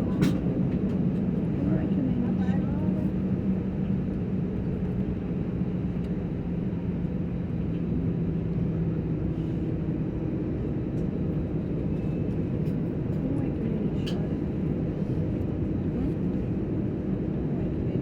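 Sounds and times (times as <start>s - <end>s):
airplane engines droning: 0.0s - 18.0s.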